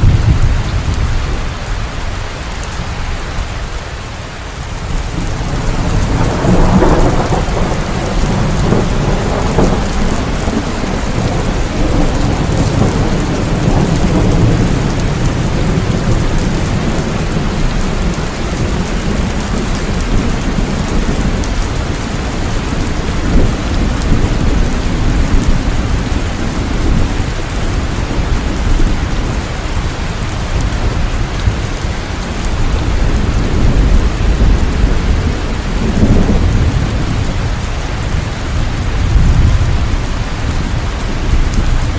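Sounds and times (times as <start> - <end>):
rolling thunder rumble: 0.0 - 3.7, 4.7 - 41.9
heavy rain hissing: 0.0 - 41.9.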